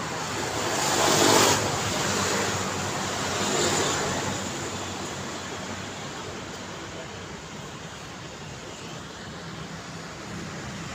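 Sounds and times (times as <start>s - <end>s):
distant traffic hum: 0.0s - 10.9s.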